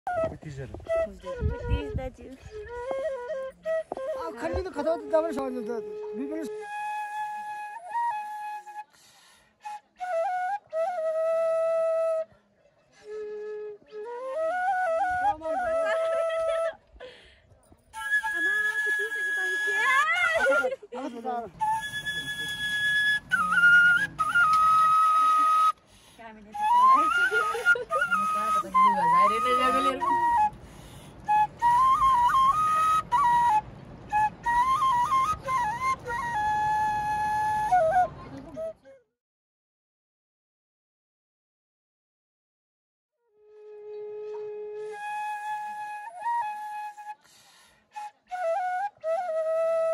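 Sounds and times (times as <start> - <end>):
solo flute melody: 0.1 - 17.0, 17.8 - 20.9, 21.5 - 39.2, 43.2 - 49.9.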